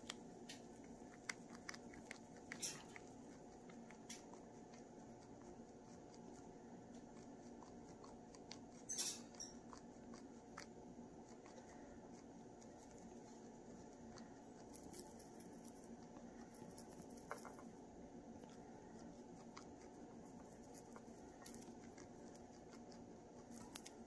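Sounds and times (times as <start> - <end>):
chinchilla chewing hay: 0.0 - 24.0
low steady hum: 0.0 - 24.0.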